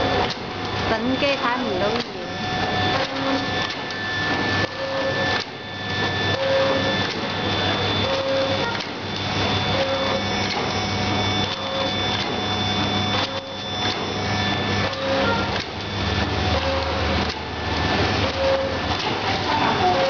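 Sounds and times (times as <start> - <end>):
packing machine motor hum: 0.0 - 20.0
repeating mechanical cycle: 0.0 - 20.0.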